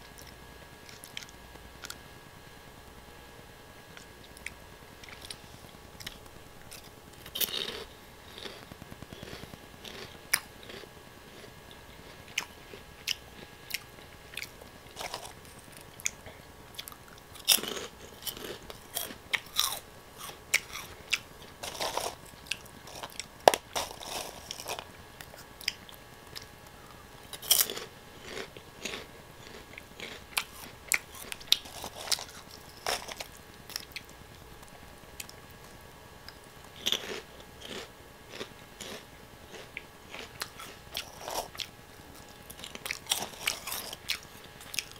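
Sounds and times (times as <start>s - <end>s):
crunching snack sticks: 4.0s - 34.2s, 35.2s - 44.9s.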